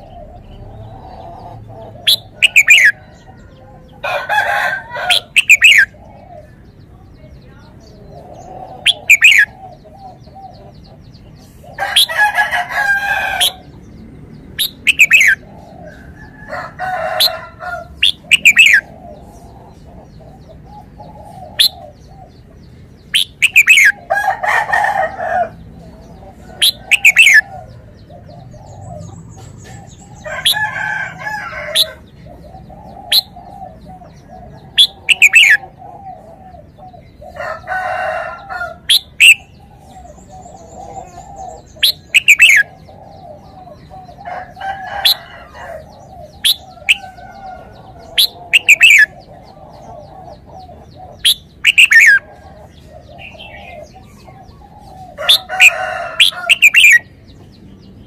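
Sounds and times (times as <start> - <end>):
longer low bird calls: 0.0 - 6.9, 7.7 - 58.0.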